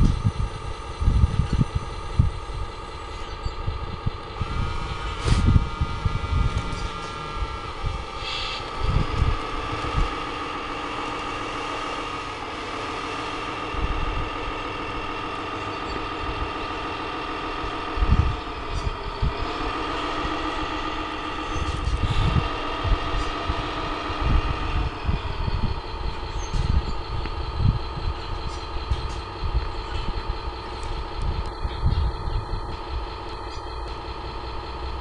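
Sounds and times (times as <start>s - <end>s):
toy truck tipping gear humming: 0.0s - 35.0s
wind buffeting microphone: 0.0s - 35.0s.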